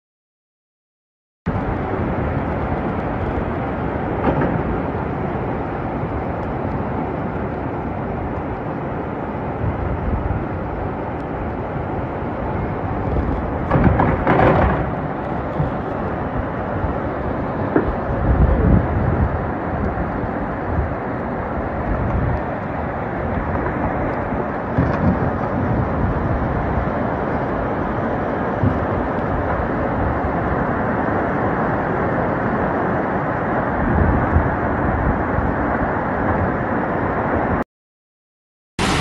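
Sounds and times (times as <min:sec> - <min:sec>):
floodwater rushing down street: 0:01.5 - 0:37.6, 0:38.8 - 0:39.0.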